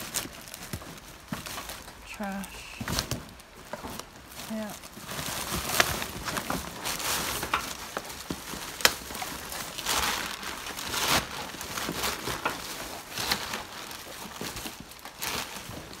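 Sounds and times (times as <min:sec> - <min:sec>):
plastic bags rustling: 0:00.0 - 0:16.0.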